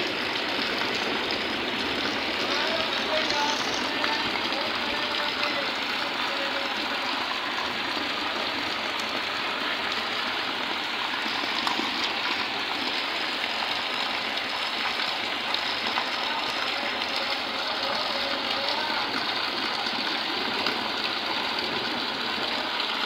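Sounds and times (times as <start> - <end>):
heavy rain splashing into water: 0.0 - 23.0.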